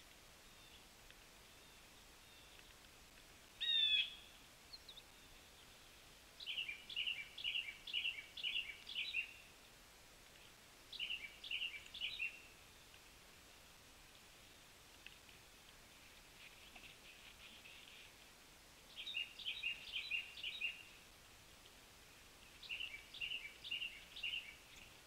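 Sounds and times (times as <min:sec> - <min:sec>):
faint background hiss: 0:00.0 - 0:25.0.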